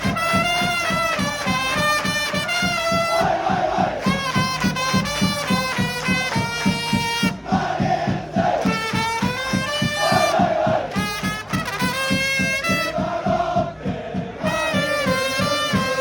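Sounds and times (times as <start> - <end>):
trumpets playing a song: 0.0 - 7.4, 8.6 - 13.2, 14.4 - 16.0
steady bass drum beat: 0.0 - 16.0
crowd singing and shouting: 0.6 - 16.0.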